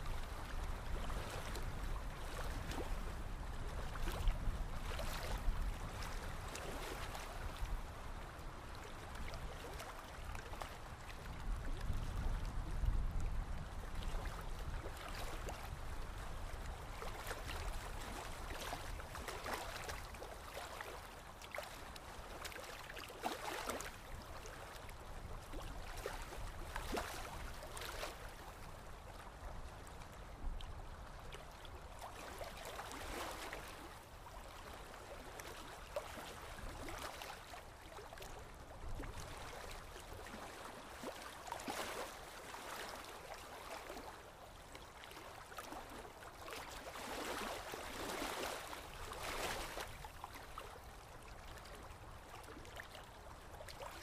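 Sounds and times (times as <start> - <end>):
water lapping against shore: 0.0 - 54.0.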